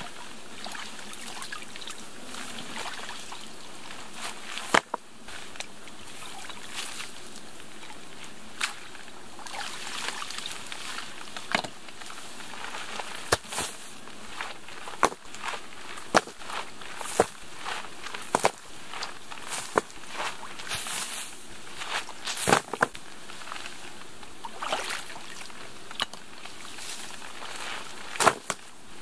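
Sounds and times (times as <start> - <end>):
water sloshing and trickling: 0.0 - 28.6.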